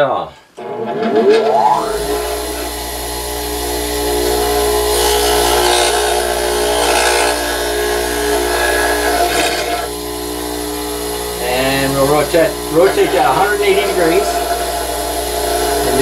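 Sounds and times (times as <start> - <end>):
grinding hiss: 0.5 - 16.0
bench grinder motor hum: 0.6 - 16.0.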